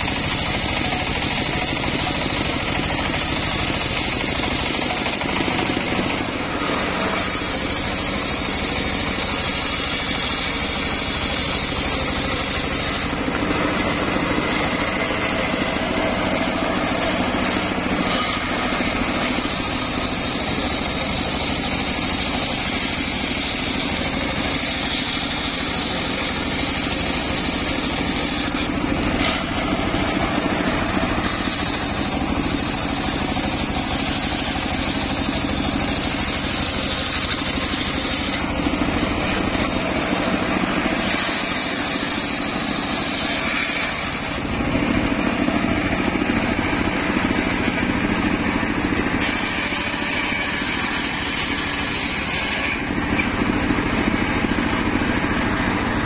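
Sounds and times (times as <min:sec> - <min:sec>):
circular saw cutting log: 0:00.0 - 0:56.0
motor running under load: 0:00.0 - 0:56.0.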